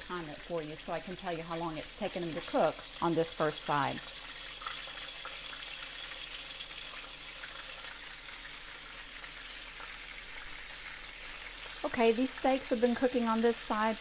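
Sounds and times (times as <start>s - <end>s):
steak sizzling in oil: 0.0s - 14.0s.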